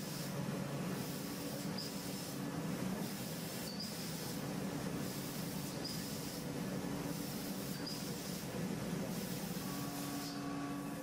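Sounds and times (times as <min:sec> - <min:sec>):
machine spindle noise with hiss: 0:00.0 - 0:11.0.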